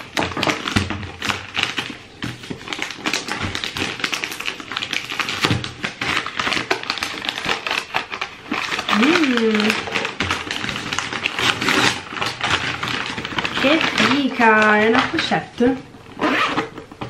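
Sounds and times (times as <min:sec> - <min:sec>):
paper bag crinkling: 0:00.0 - 0:17.0.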